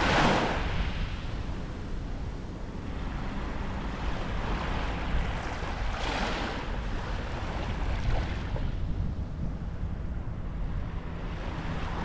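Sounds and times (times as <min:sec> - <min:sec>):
steady low rumble: 0:00.0 - 0:12.0
waves washing on sandy beach: 0:00.0 - 0:12.0.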